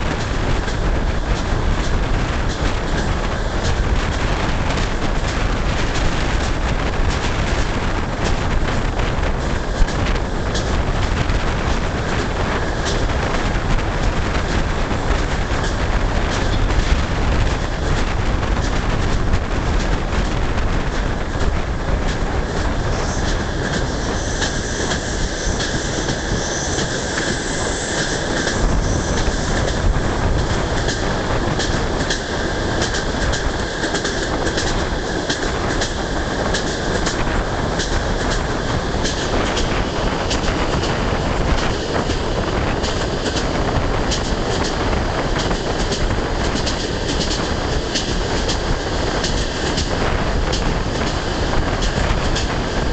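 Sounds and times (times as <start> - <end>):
train wheels on rails: 0.0 - 52.9
wheels clacking over rail joints: 0.0 - 52.9.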